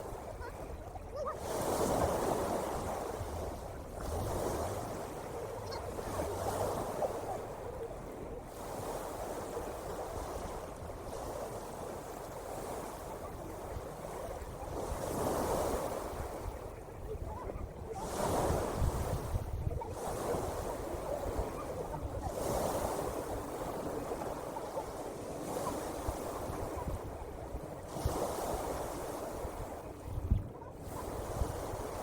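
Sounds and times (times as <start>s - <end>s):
ocean waves washing in: 0.0s - 32.0s.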